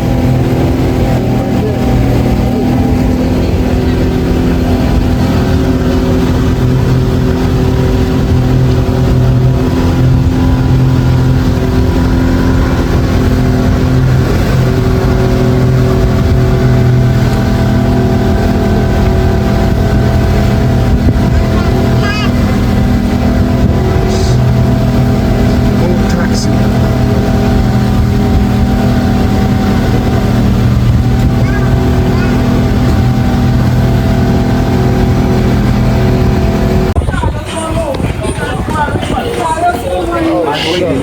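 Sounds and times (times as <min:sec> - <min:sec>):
outboard motor running: 0:00.0 - 0:41.0
rushing water and air: 0:00.0 - 0:41.0.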